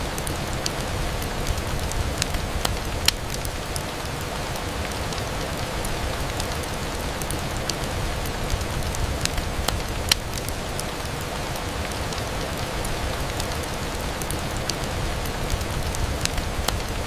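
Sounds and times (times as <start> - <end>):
rain on a window: 0.0 - 17.0
sharp ticks of raindrops: 0.0 - 17.0.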